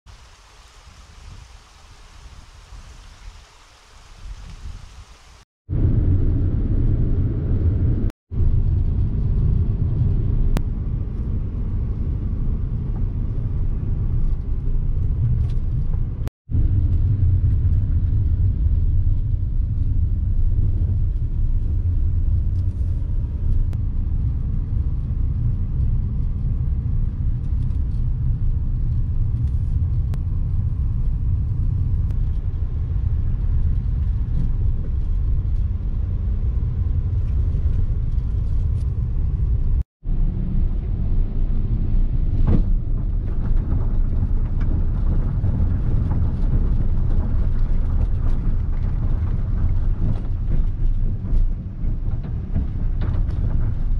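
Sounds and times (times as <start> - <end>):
car tyre and engine rumble: 0.1 - 53.9.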